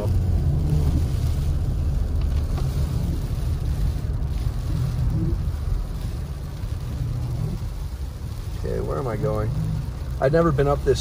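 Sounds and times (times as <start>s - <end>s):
car engine rumble: 0.0s - 11.0s
tyres on wet road: 0.0s - 11.0s.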